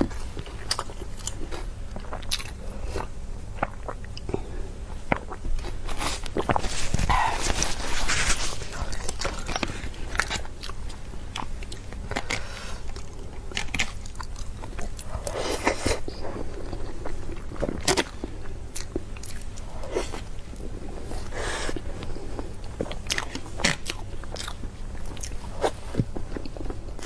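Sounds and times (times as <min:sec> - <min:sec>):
biting and chewing meat: 0:05.1 - 0:27.0.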